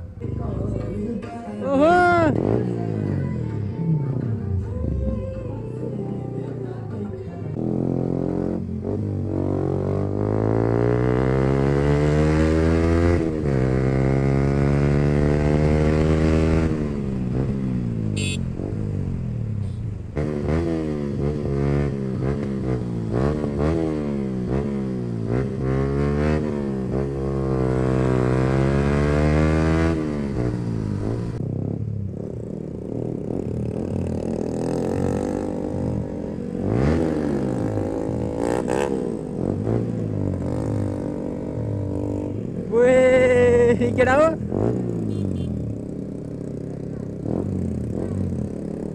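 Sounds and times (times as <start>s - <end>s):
motorcycle engine accelerating: 7.5s - 48.9s.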